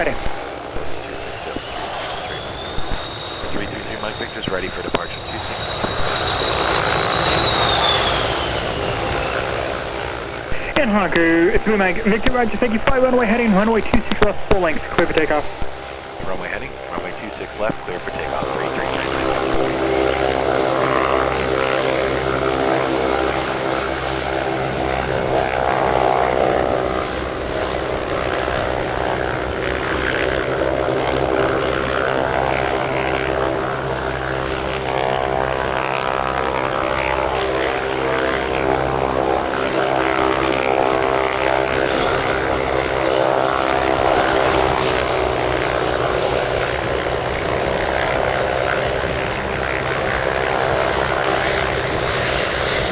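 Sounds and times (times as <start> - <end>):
jet engines at takeoff power: 0.0 - 52.9.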